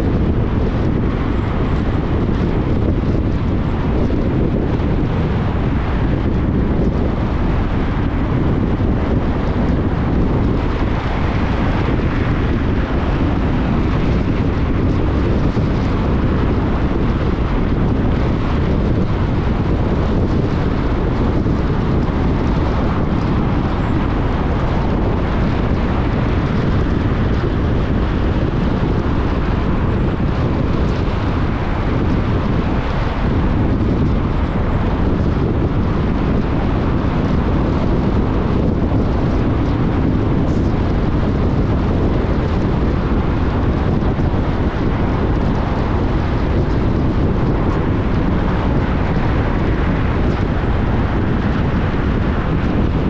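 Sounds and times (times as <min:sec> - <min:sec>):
car wind and road noise: 0:00.0 - 0:53.0.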